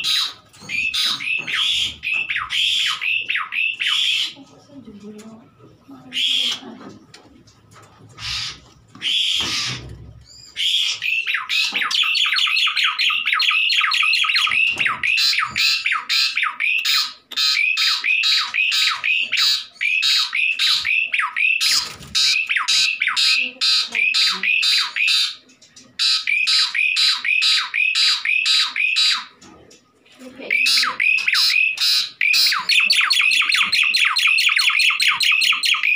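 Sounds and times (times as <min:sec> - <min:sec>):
bird squawking calls: 0:00.0 - 0:04.4, 0:08.2 - 0:25.4, 0:26.0 - 0:29.4, 0:30.4 - 0:35.9.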